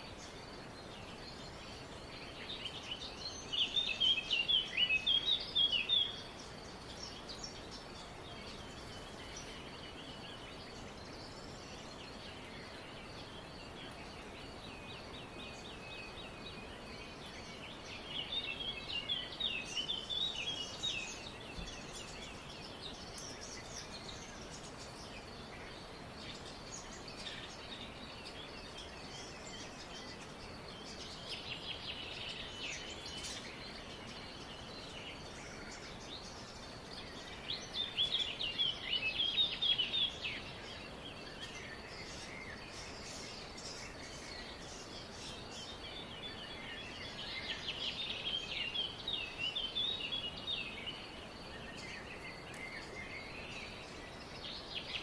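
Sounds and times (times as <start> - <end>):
faint background hiss: 0.0 - 55.0
songbirds chirping and twittering: 0.0 - 55.0.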